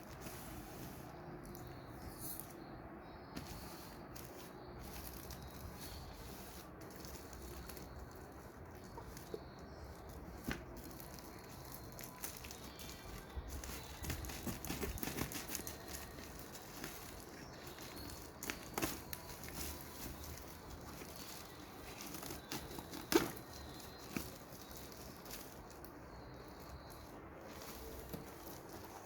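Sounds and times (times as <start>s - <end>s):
plastic packaging rustling: 3.3s - 29.0s.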